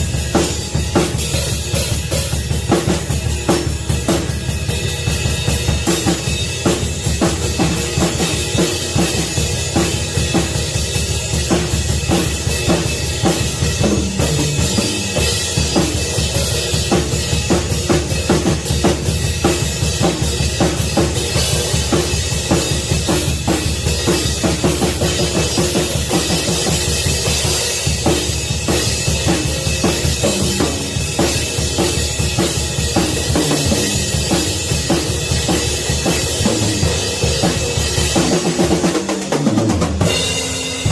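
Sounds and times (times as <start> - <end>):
drum kit groove: 0.0 - 40.9.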